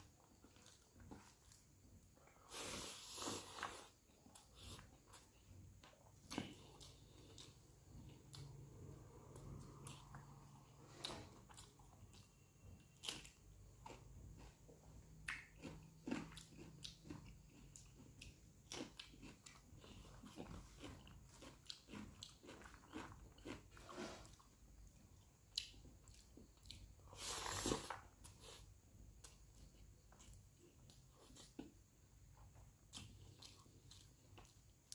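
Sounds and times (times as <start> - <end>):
chewing and biting: 3.5 - 28.6, 29.2 - 34.9.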